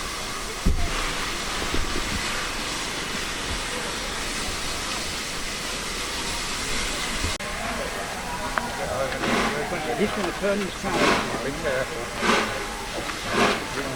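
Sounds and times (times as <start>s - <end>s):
loud train hiss: 0.0s - 13.9s.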